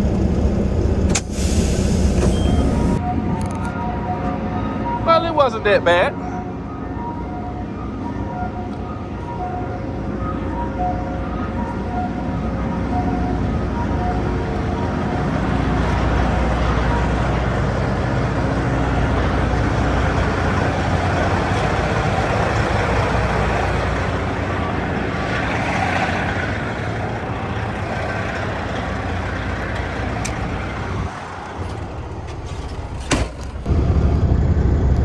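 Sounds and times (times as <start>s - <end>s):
diesel truck rumbling: 0.0s - 3.1s, 9.2s - 35.0s.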